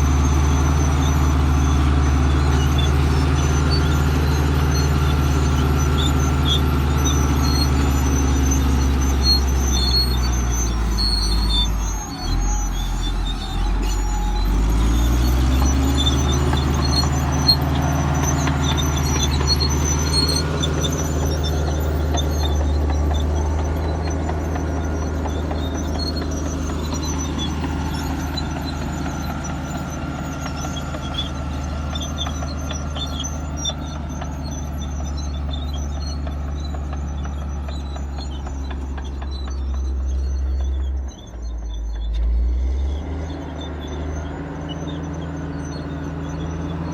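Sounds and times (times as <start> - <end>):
bulldozer diesel engine running: 0.0 - 46.9
steel tracks squeaking: 0.0 - 46.9.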